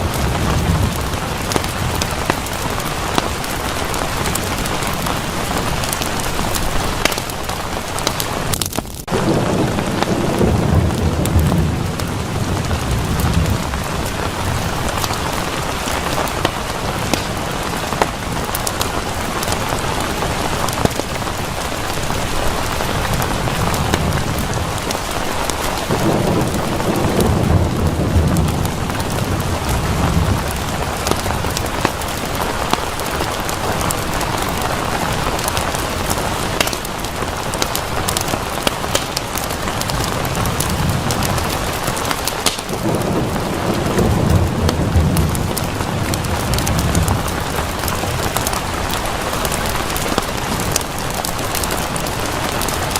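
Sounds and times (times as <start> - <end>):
low roll of thunder: 0.0 - 7.1, 9.1 - 36.6, 37.2 - 52.9
individual raindrops: 0.0 - 52.9
steady rain falling: 0.0 - 52.9.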